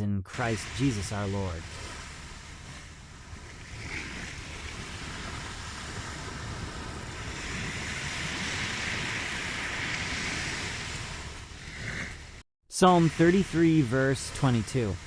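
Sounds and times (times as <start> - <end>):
ocean waves washing in: 0.3 - 15.0.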